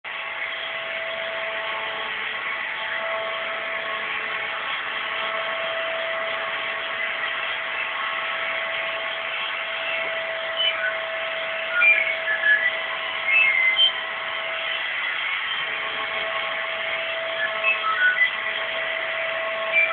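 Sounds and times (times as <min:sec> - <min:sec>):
robot vacuum cleaner running: 0:00.1 - 0:19.9.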